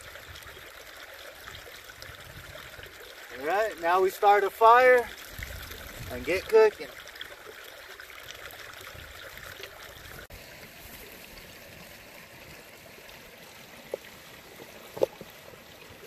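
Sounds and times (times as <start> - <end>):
creek trickling over rocks: 0.0 - 16.0.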